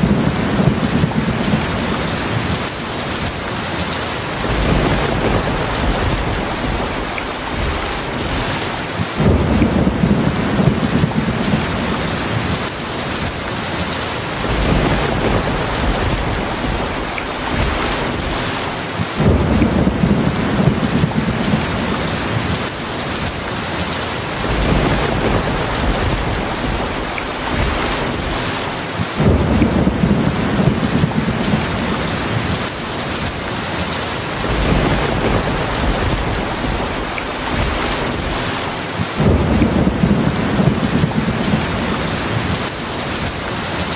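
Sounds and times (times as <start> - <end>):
rolling thunder rumbles: 0.0 - 23.4, 24.1 - 43.8
heavy rain falling: 0.0 - 43.9.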